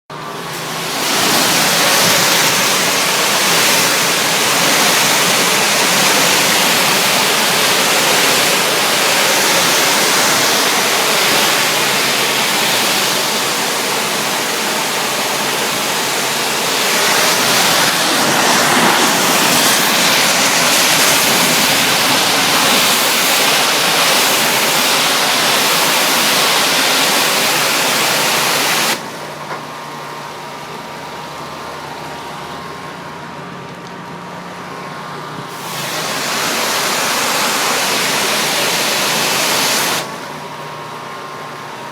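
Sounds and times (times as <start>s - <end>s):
pressure washer water jet spraying: 0.1s - 29.5s, 35.5s - 41.9s.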